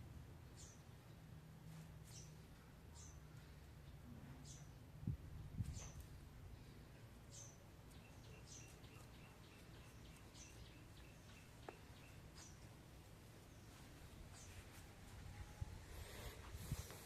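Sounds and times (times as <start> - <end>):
small bird chirping: 0.5 - 1.2, 2.0 - 12.8, 13.4 - 15.8.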